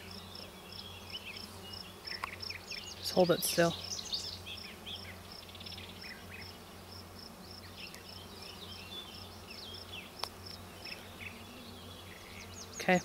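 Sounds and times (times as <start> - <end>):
bees humming: 0.0 - 13.0.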